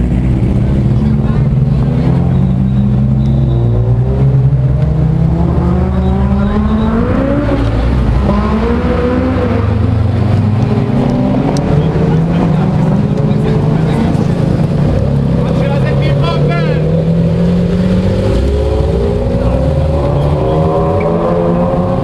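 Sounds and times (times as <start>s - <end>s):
sports car engines passing: 0.0s - 22.0s.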